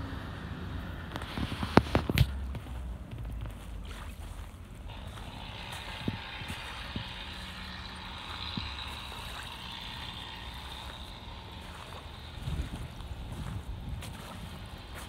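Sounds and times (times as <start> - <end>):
distant motor drone with hiss: 0.0 - 2.6, 4.8 - 15.0.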